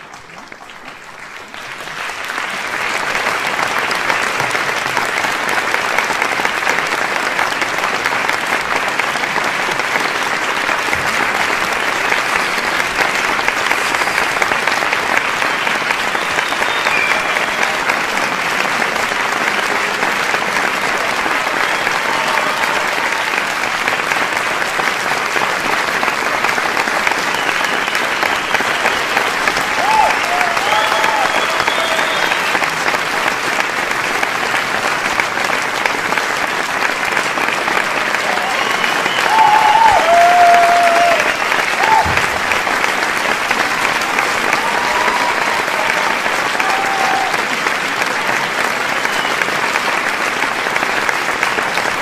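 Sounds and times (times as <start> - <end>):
crowd applauding and cheering: 0.0 - 52.0.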